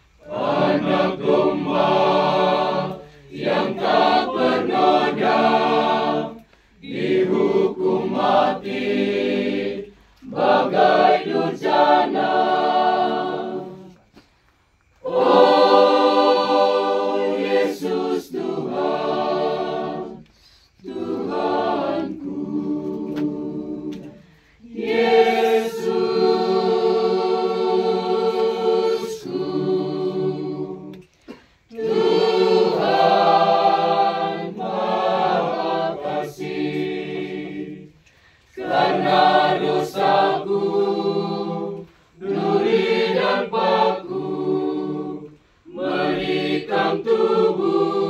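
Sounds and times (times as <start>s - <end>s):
choir singing a hymn: 0.0s - 48.0s.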